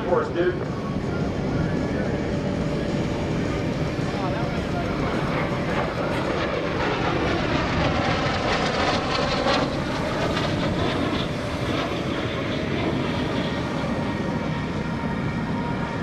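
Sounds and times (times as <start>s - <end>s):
jet engine whine sliding down: 0.0s - 16.0s
jet roar passing overhead: 0.0s - 16.0s.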